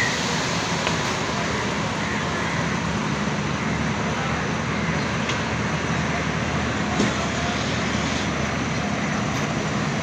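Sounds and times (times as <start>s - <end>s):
train wheels rolling on rail: 0.0s - 10.0s.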